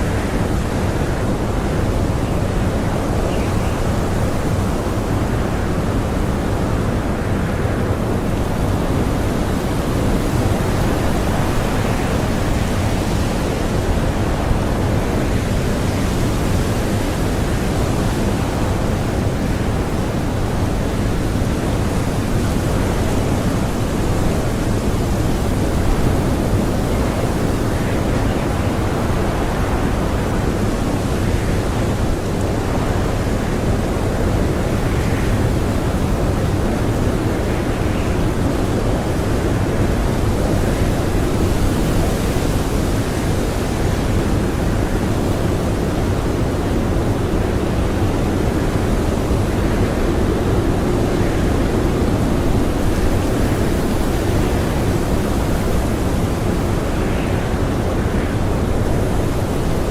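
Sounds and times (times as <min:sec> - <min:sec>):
blizzard wind blowing hard: 0:00.0 - 0:59.9.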